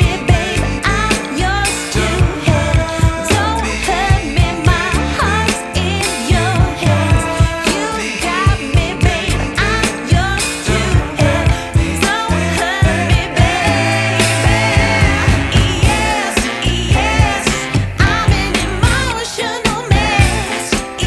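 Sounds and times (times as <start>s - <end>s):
singing over a strong beat: 0.0s - 21.0s.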